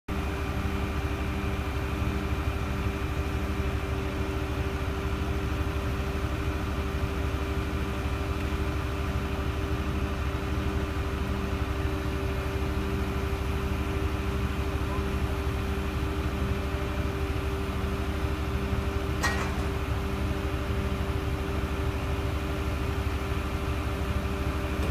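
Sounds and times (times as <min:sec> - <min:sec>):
diesel engine pulsing: 0:00.1 - 0:24.9.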